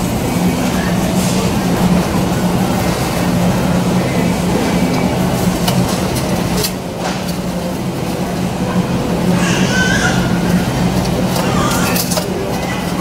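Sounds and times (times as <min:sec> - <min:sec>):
low hum of freezers and ventilation: 0:00.0 - 0:13.0.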